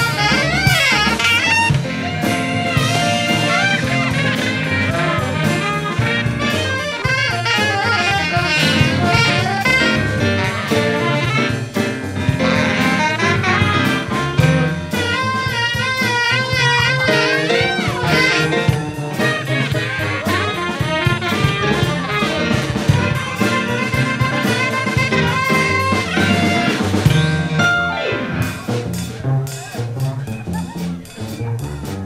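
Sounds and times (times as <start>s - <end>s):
drums keeping time: 0.0s - 32.0s
saxophones playing jazz: 0.0s - 32.0s.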